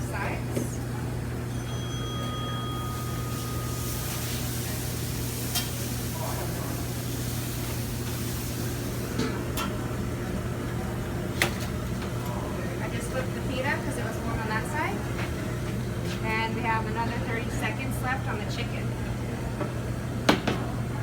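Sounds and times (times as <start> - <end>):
kitchen equipment humming: 0.0 - 21.0.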